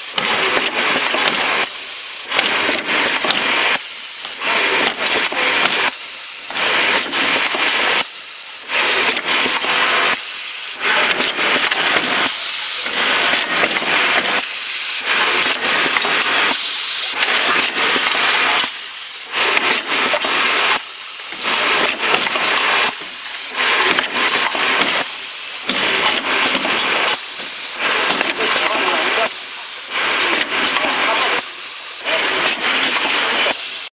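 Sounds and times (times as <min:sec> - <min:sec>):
filling machine running: 0:00.0 - 0:33.9.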